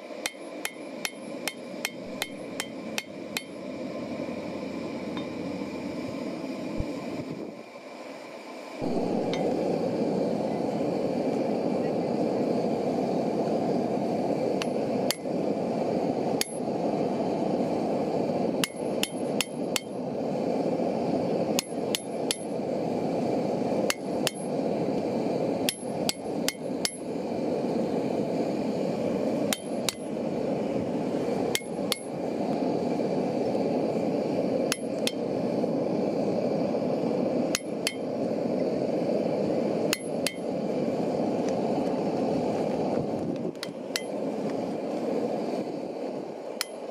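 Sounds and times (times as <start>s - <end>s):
steady rushing noise: 0.0s - 46.9s.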